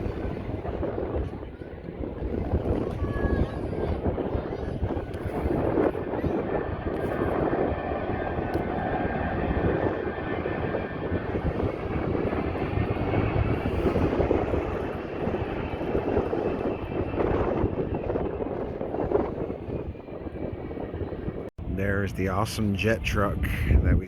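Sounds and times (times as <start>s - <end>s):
aircraft engine running: 0.0s - 24.0s.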